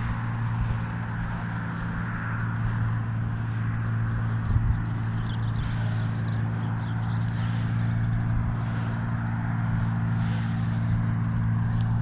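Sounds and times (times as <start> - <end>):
footsteps on grass: 0.0 - 12.0
low mechanical hum: 0.0 - 12.0.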